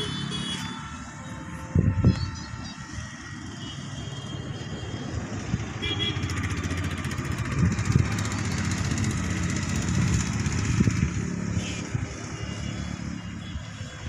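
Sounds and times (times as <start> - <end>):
small engine running: 2.1 - 14.0.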